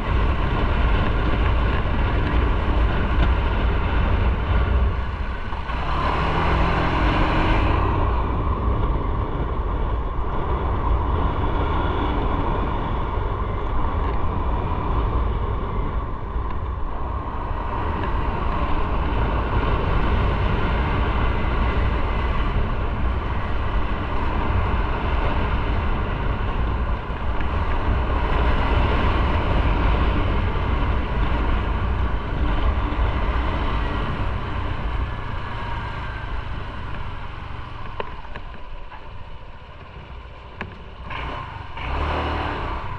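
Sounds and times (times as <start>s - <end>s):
motorcycle engine running: 0.0s - 42.9s
wind rumble on microphone: 0.0s - 42.9s.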